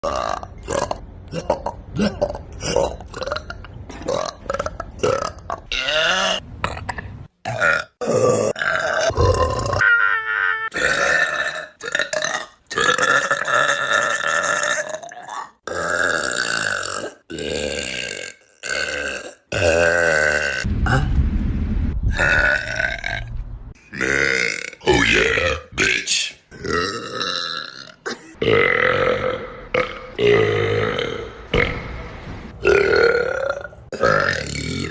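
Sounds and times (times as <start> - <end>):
loud human burps: 0.0 - 9.9, 10.7 - 20.7, 23.9 - 24.9, 26.6 - 31.8, 32.6 - 34.9.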